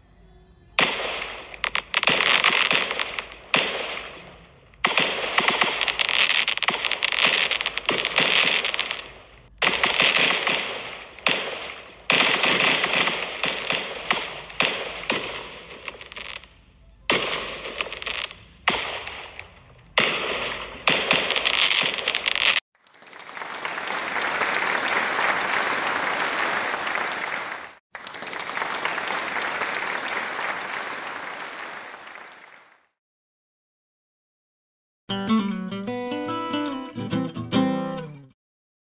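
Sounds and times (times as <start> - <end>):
fireworks bangs and crackling: 0.8 - 32.6.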